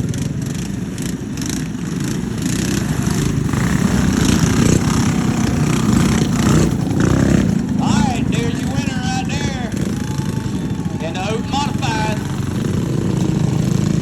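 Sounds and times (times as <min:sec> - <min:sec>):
minibike engine putter: 0:00.0 - 0:09.1, 0:09.7 - 0:14.0.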